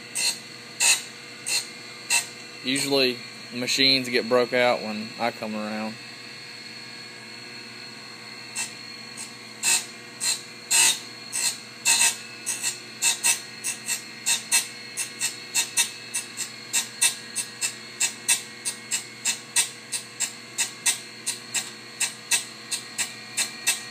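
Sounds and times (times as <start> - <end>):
grinder wheel whining: 0.0 - 23.9.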